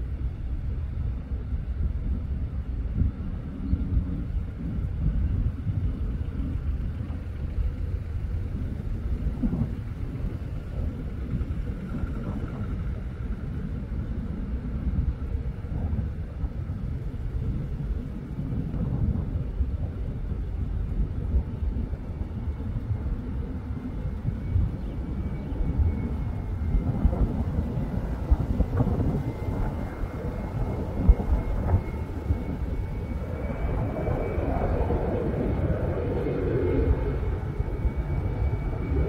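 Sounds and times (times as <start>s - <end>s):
distant jet rumble: 0.0s - 39.0s.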